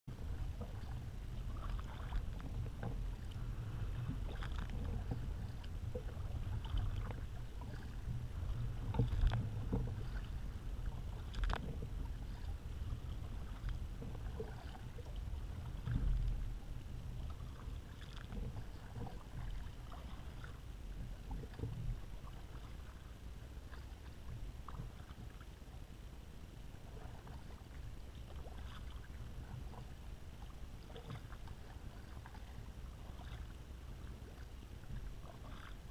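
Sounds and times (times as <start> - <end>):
paddle strokes splashing: 0.1 - 25.8, 26.8 - 35.9
steady low rumble: 0.1 - 35.9
water lapping at hull: 0.1 - 35.9.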